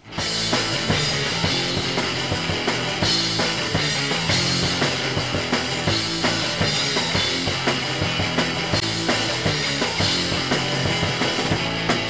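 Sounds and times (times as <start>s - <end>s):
rock music with drums: 0.0s - 12.0s.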